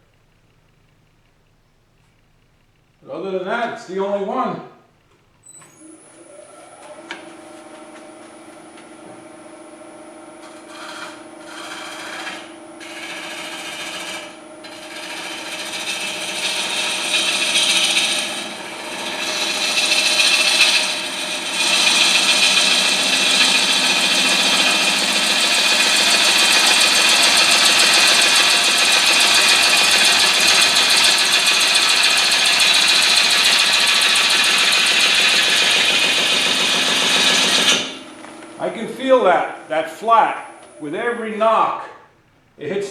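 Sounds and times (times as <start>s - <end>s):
lathe motor hum: 5.7s - 41.6s
gouge cutting spinning wood: 6.1s - 41.6s.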